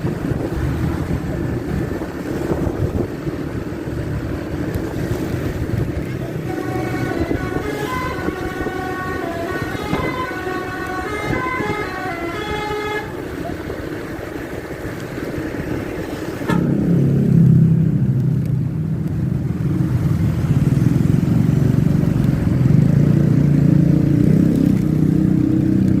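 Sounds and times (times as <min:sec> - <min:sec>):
bus engine droning: 0:00.0 - 0:26.0.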